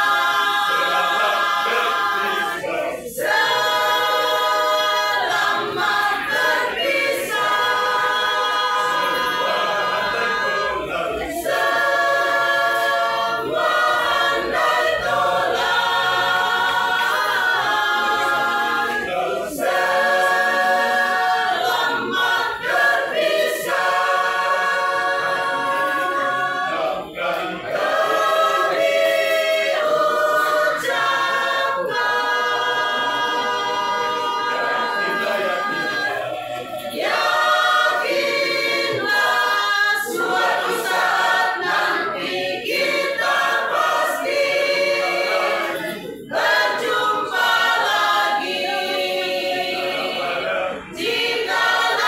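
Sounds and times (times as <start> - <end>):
mixed choir singing: 0.0 - 52.0.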